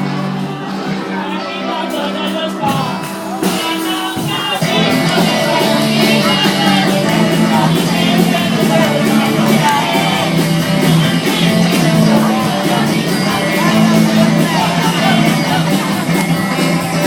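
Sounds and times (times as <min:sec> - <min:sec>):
loud rock music: 0:00.0 - 0:17.0
low bass notes: 0:00.0 - 0:17.0
shouted vocals: 0:00.0 - 0:17.0.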